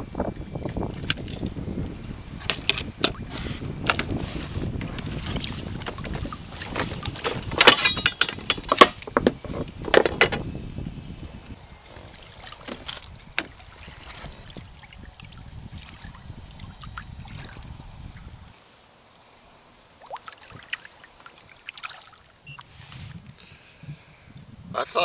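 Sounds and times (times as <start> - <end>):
wind and water rumble: 0.0 - 25.0.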